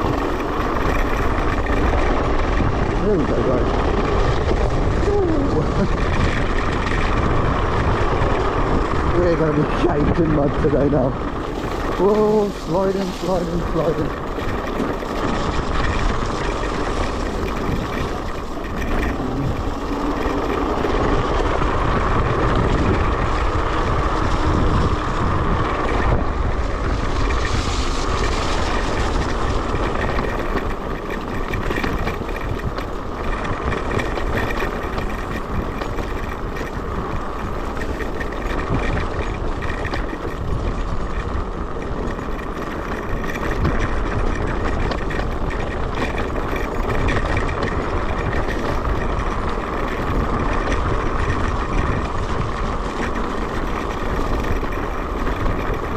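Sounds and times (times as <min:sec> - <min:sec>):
scooter motor whine: 0:00.0 - 0:55.9
tyres rumbling on rough track: 0:00.0 - 0:55.9
wind on microphone: 0:00.0 - 0:55.9.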